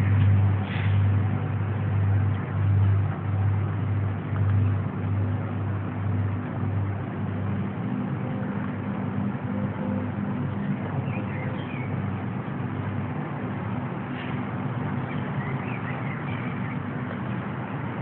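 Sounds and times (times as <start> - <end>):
low humming drone: 0.0 - 18.0.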